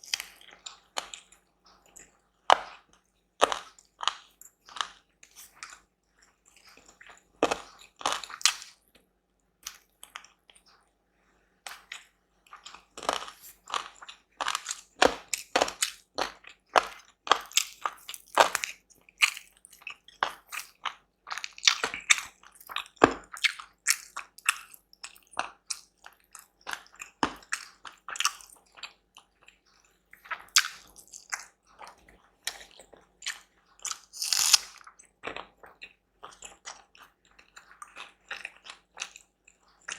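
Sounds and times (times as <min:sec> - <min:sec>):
person chewing and biting: 0:00.0 - 0:08.8, 0:11.7 - 0:39.9.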